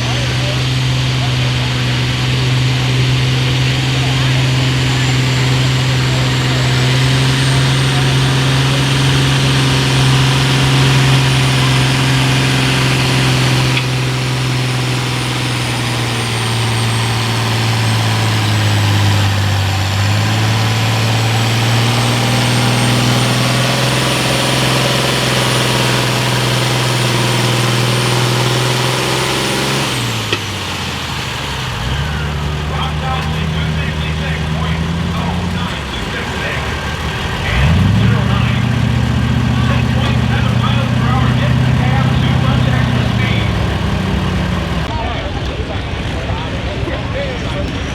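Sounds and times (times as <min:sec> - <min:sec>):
tractor engine under full load: 0:00.0 - 0:47.9.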